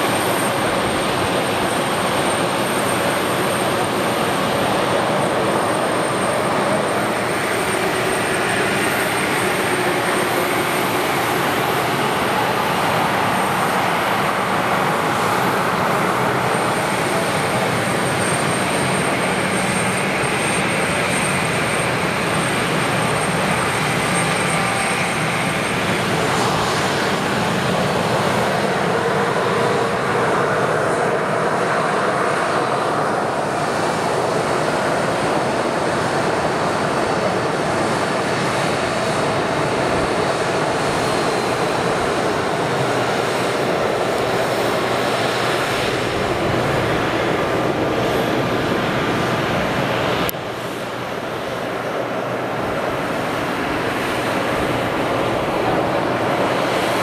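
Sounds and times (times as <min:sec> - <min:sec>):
jet engines at taxi power: 0:00.0 - 0:57.0.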